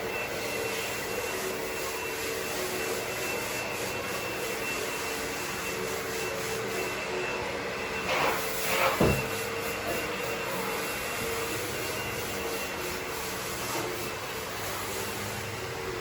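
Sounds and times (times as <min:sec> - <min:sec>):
carpet cleaner motor whining: 0:00.0 - 0:16.0.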